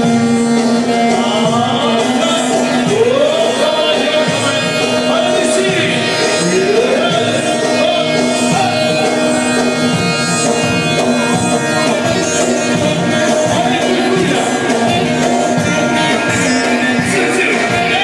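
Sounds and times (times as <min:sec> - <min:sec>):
electronic keyboard melody: 0:00.0 - 0:18.0
keyboard accompaniment: 0:00.0 - 0:18.0.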